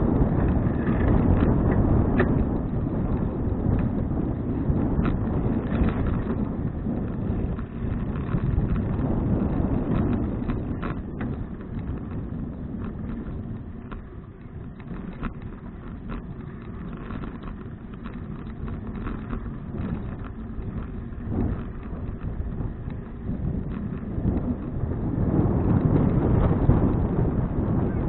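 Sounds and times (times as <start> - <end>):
wind rumbling on microphone: 0.0 - 28.0
light clicks and rattles: 0.1 - 28.0.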